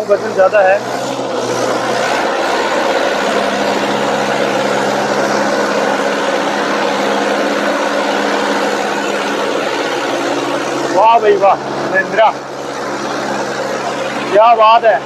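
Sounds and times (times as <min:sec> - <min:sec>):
tractor diesel engine straining: 0:00.0 - 0:15.0.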